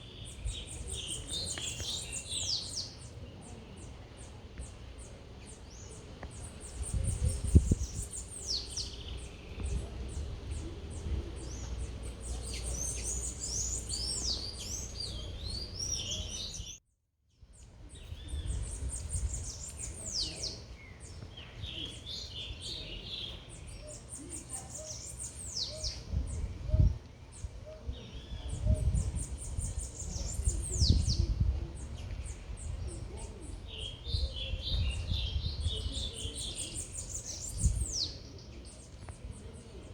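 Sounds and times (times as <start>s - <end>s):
low city rumble: 0.0s - 16.8s, 17.5s - 39.9s
small birds chirping: 0.0s - 16.8s, 17.4s - 39.9s.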